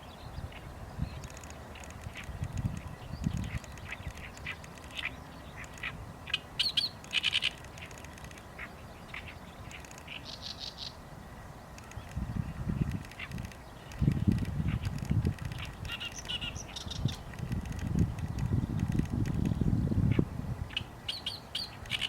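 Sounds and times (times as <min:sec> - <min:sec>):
birds with harsh calls: 0:00.0 - 0:11.0, 0:11.6 - 0:22.0.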